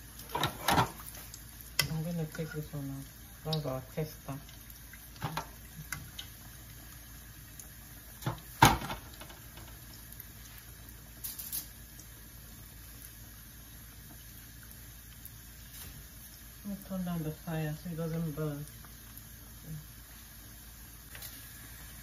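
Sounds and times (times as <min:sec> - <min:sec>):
oil bubbling while deep-frying: 0:00.0 - 0:22.0.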